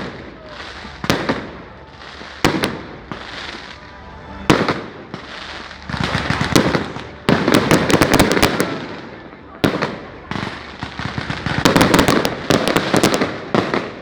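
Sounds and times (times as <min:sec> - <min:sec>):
firecrackers crackling pops: 0:00.0 - 0:03.9, 0:04.5 - 0:14.0
firecracker bangs: 0:00.0 - 0:14.0.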